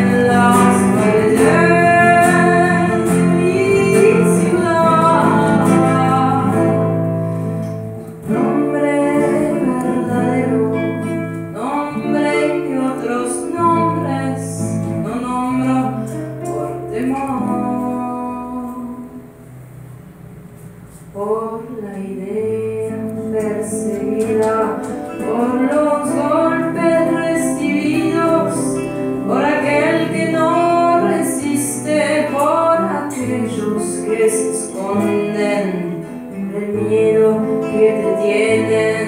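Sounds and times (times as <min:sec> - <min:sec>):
woman singing long notes: 0:00.0 - 0:07.0, 0:08.3 - 0:19.4, 0:21.1 - 0:39.0
acoustic guitars: 0:00.0 - 0:39.0.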